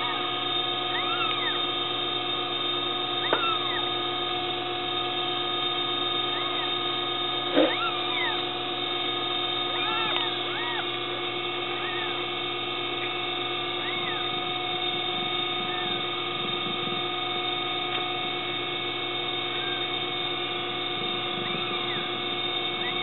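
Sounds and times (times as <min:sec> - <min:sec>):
kittens mewing: 0:00.0 - 0:05.0, 0:05.6 - 0:17.6, 0:18.2 - 0:23.0
mechanical hum: 0:00.0 - 0:23.0.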